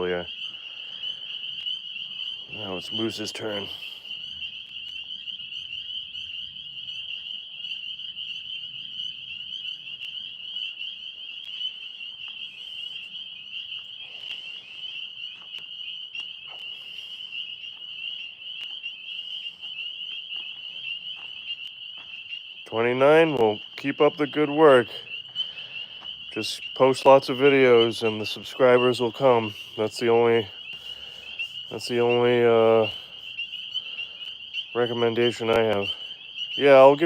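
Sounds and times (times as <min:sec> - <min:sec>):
tree frogs trilling: 0:00.0 - 0:37.0.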